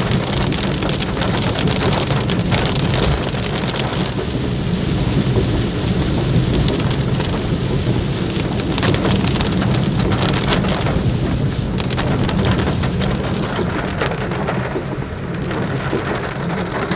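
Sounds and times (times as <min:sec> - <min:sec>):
heavy rain on car roof: 0:00.0 - 0:16.9.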